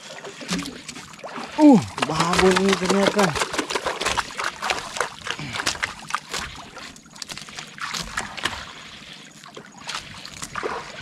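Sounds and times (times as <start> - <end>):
water sloshing against hull: 0.0 - 11.0.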